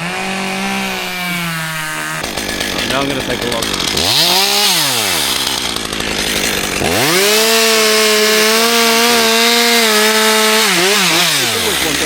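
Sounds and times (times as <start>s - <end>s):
chainsaw cutting log: 0.0s - 12.0s
chainsaw revving: 0.0s - 12.0s.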